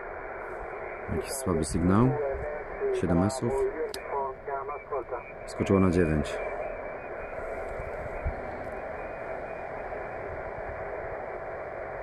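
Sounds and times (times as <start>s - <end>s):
muffled radio static hiss: 0.0s - 12.0s.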